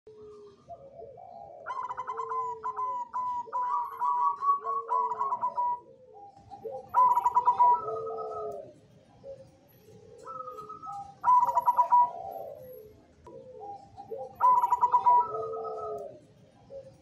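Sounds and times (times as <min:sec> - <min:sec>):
dove cooing: 0:00.1 - 0:17.0.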